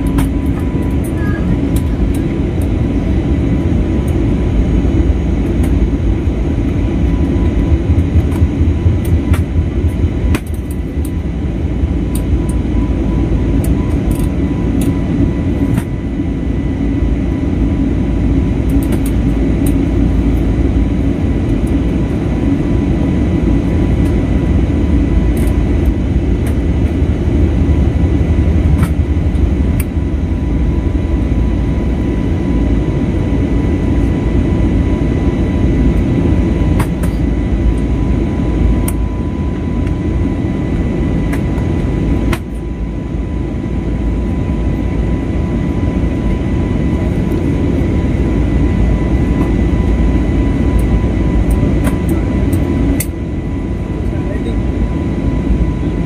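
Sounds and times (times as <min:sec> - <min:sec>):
airliner cabin drone: 0:00.0 - 0:56.0
thin steady whine: 0:00.0 - 0:56.0.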